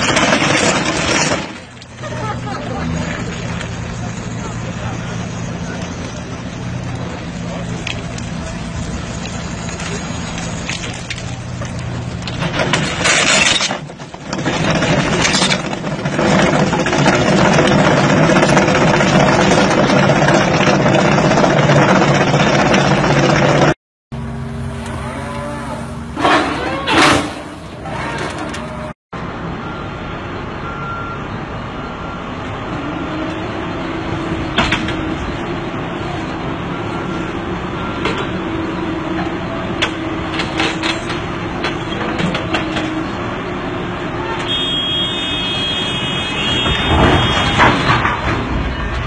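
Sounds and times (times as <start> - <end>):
excavator engine and hydraulics: 0.0 - 49.0.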